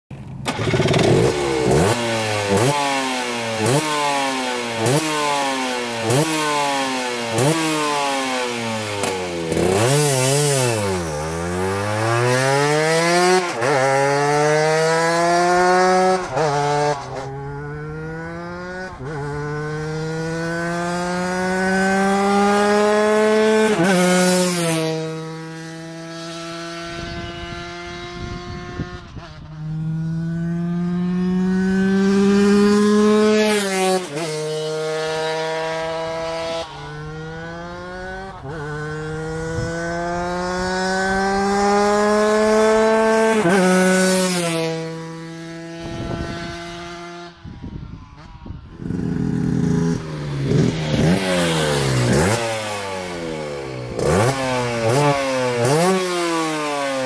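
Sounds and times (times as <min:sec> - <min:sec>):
motorcycle accelerating: 0:00.1 - 0:57.0
motorcycle engine revving: 0:00.2 - 0:57.0.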